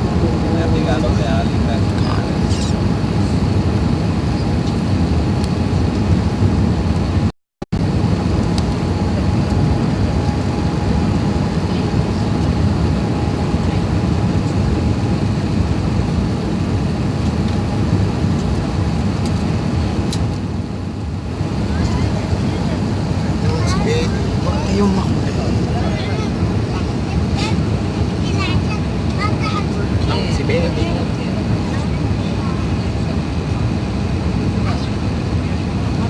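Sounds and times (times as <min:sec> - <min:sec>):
aircraft cabin engine rumble: 0:00.0 - 0:36.0.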